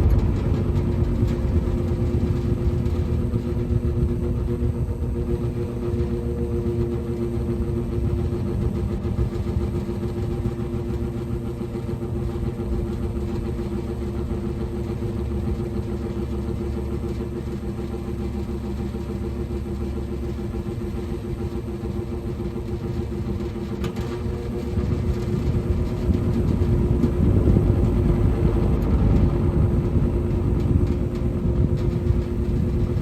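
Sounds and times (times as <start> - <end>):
air rushing through fan blades: 0.0 - 33.0
box fan motor hum: 0.0 - 33.0.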